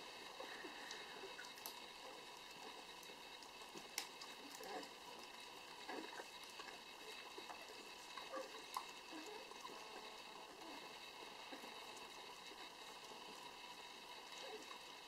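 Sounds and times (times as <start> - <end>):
dogs lapping wet food: 0.4 - 15.0.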